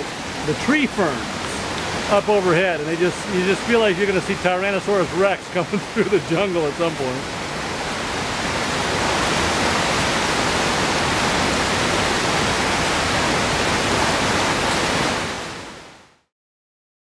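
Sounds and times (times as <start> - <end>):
river water rushing: 0.0 - 16.2.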